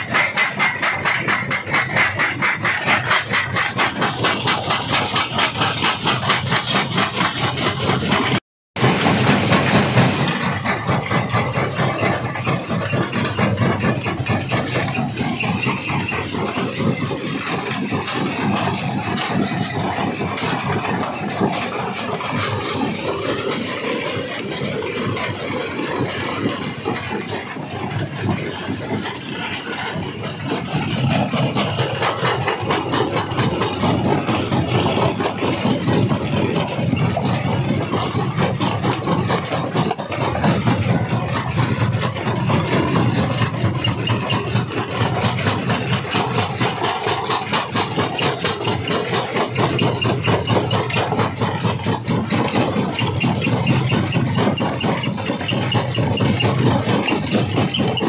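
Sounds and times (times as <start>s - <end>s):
stone crusher machine drone: 0.0s - 58.0s.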